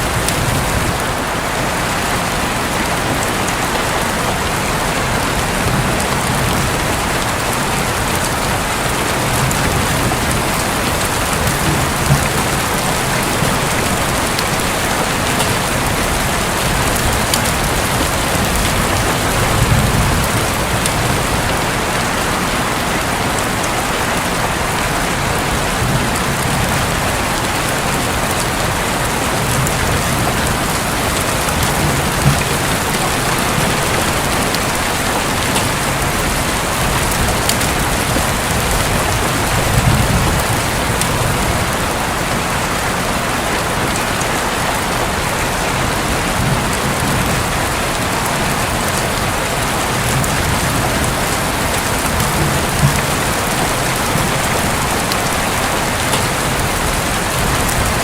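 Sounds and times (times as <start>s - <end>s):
heavy rain on a roof: 0.0s - 58.0s
thunder rumbling: 4.1s - 22.7s, 23.4s - 42.3s, 45.2s - 58.0s.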